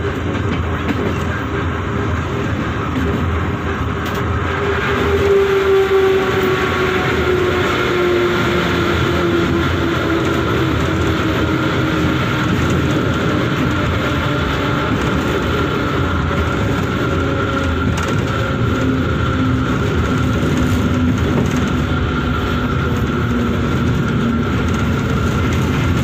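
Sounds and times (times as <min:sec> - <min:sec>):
train whine gliding down: 0:00.0 - 0:26.0
wheels rumbling on rails: 0:00.0 - 0:26.0.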